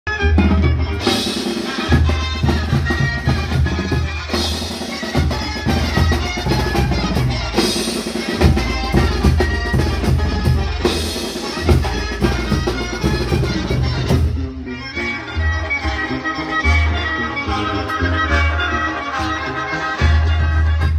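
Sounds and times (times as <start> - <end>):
banda music with drums and bass: 0.1 - 20.9
sustained keyboard or horn notes: 0.1 - 20.9.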